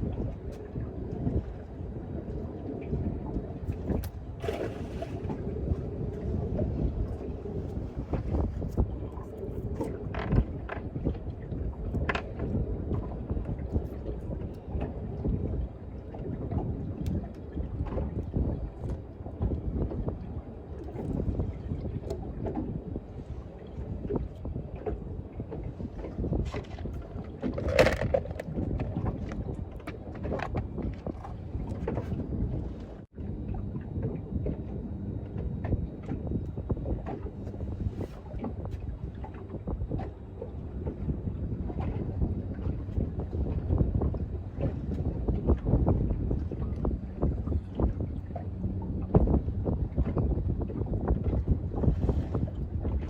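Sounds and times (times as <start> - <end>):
water slapping against hull: 0.0 - 53.0
wind buffeting microphone: 0.0 - 53.0.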